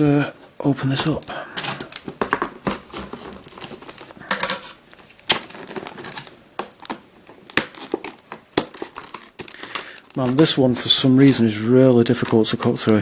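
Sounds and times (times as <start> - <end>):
plastic packaging being cut: 0.8 - 13.0
plastic snapping: 0.9 - 11.4, 12.0 - 13.0.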